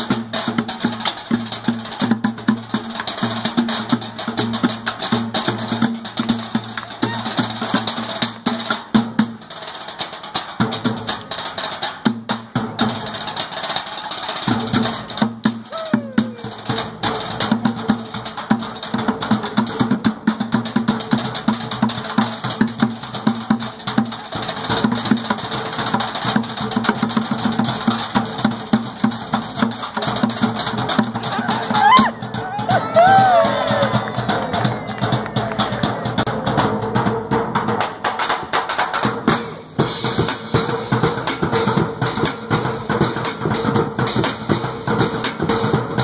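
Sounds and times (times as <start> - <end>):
drumming on cans and buckets: 0.0 - 46.0.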